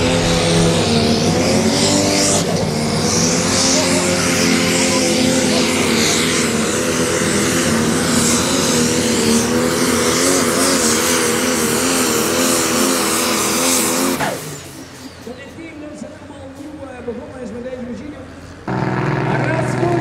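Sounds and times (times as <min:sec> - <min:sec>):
diesel tractor engine at full throttle: 0:00.0 - 0:20.0.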